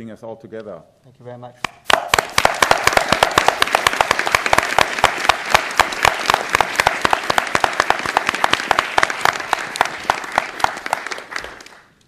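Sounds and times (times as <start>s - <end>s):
audience applauding: 1.9s - 12.0s.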